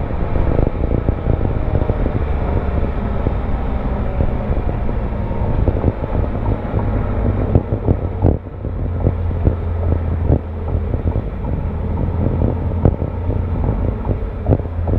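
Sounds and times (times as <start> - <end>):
car exhaust idling low: 0.0 - 14.9
wind buffeting microphone: 0.0 - 14.9.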